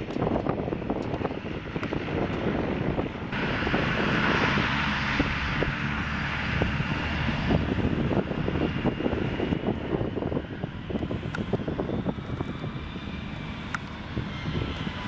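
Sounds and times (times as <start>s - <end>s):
turboprop engines running: 0.0s - 15.0s
wind buffeting microphone: 0.0s - 15.0s.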